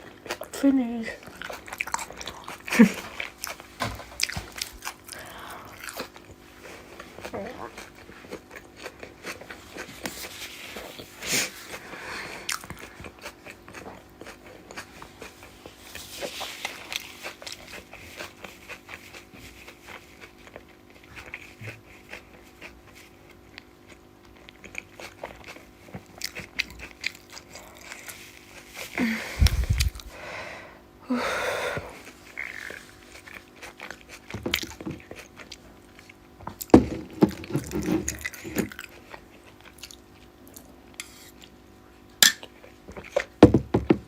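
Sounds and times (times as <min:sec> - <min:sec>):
close-up chewing and eating: 0:00.0 - 0:30.2, 0:31.7 - 0:44.0.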